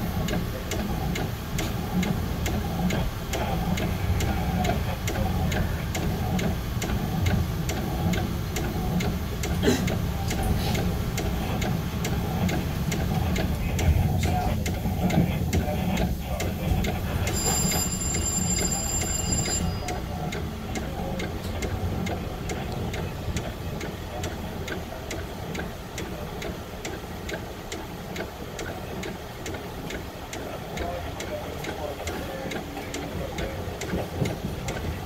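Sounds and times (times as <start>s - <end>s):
steady ticking: 0.0s - 35.0s.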